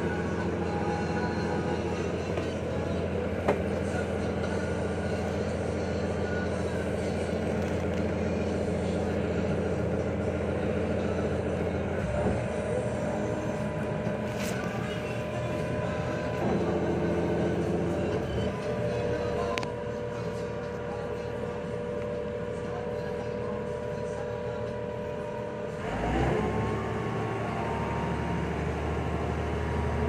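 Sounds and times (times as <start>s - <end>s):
ferry engine drone: 0.0s - 30.0s.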